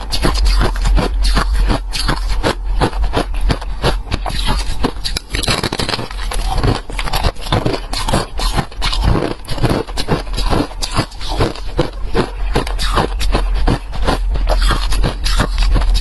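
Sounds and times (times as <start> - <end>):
freezer frost crunching and scraping: 0.0 - 16.0.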